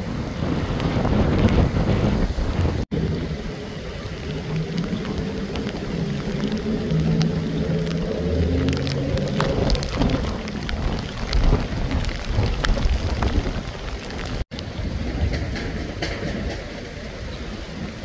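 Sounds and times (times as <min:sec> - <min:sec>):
heavy rain on a flooded road: 0:00.0 - 0:18.0
wind rumbling on microphone: 0:00.0 - 0:18.0.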